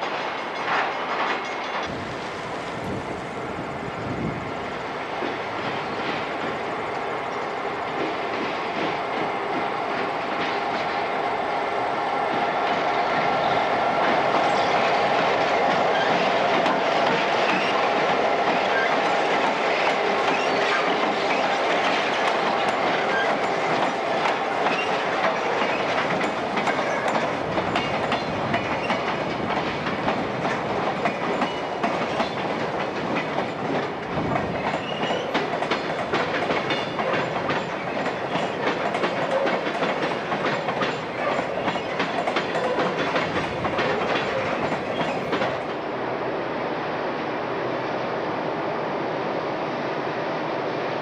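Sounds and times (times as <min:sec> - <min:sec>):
wheels clacking over rail joints: 0:00.0 - 0:03.3, 0:04.0 - 0:45.8
freight train rumbling past: 0:00.0 - 0:51.0.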